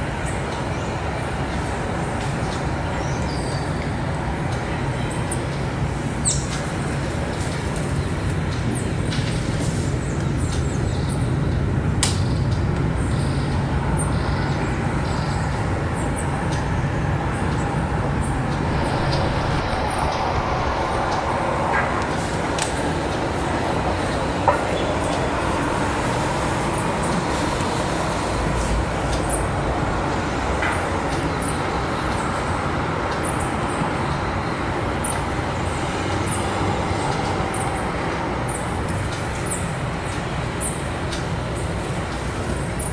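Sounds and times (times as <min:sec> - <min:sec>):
distant city traffic rumble: 0:00.0 - 0:42.9.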